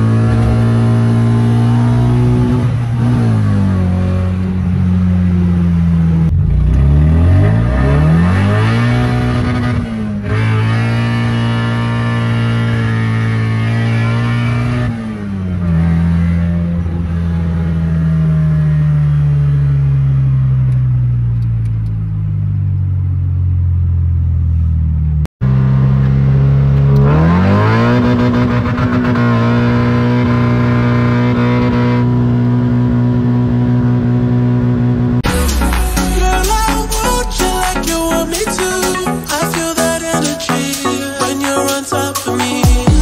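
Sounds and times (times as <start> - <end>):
car engine and exhaust: 0.0 - 43.0.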